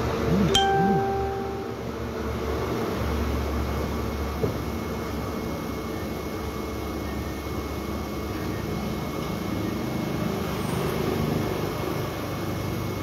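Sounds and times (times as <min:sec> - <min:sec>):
street traffic drone: 0:00.0 - 0:13.0.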